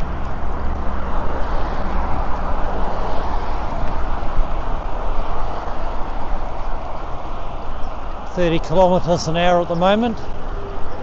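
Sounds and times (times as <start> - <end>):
motorway traffic noise: 0.0 - 11.0.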